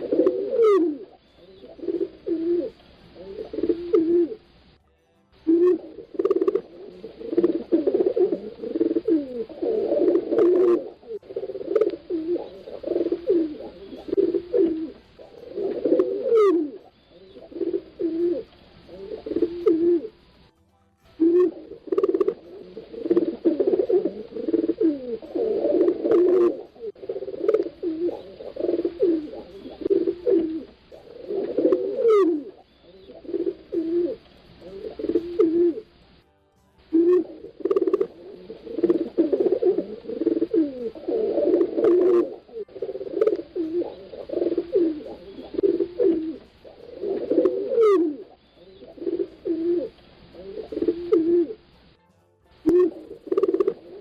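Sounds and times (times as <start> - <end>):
pigeons cooing: 0.0 - 4.6, 5.5 - 20.4, 21.2 - 36.0, 36.9 - 51.8, 52.6 - 54.0.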